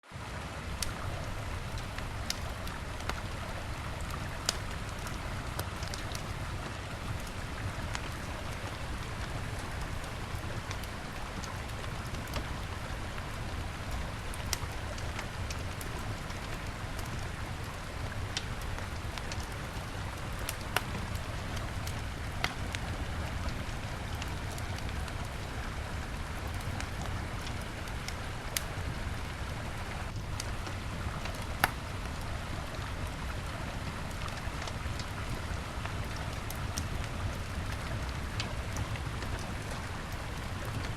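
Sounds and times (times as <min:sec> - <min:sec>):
campfire crackling and popping: 0:00.6 - 0:40.9.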